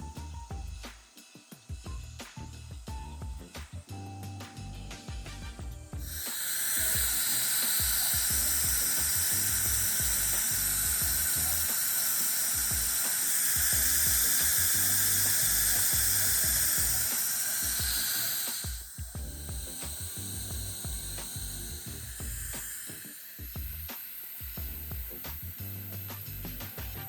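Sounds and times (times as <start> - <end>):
dental equipment hissing: 0.0 - 27.0.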